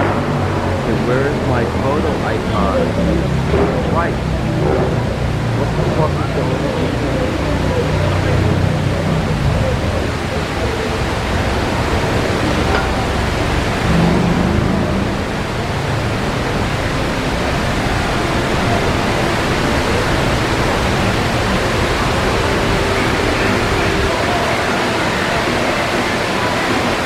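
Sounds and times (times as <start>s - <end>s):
faint crowd voices: 0.0s - 27.0s
waterfall rushing: 0.0s - 27.0s.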